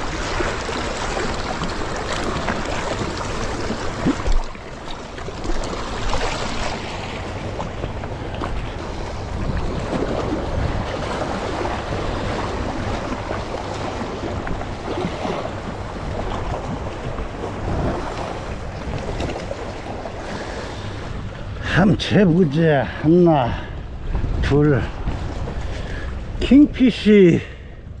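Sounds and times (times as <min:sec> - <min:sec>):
wind rumbling on microphone: 0:00.0 - 0:26.6.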